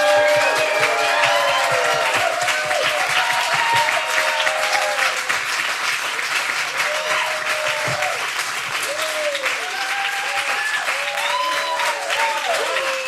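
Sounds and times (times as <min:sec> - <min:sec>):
whoops and cheers: 0:00.0 - 0:05.3, 0:06.7 - 0:08.2, 0:08.8 - 0:13.0
people clapping: 0:00.0 - 0:13.0.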